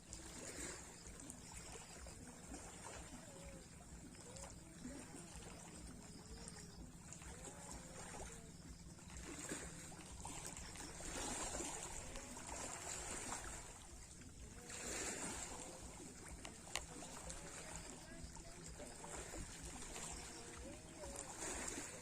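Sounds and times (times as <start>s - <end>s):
sea waves washing in: 0.0s - 22.0s.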